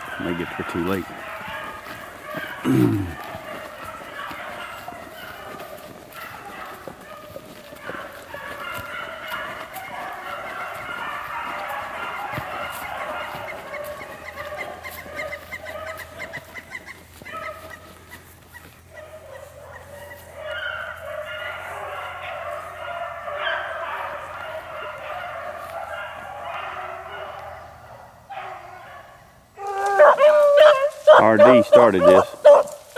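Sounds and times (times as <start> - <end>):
pack of dogs baying: 0.0 - 32.9.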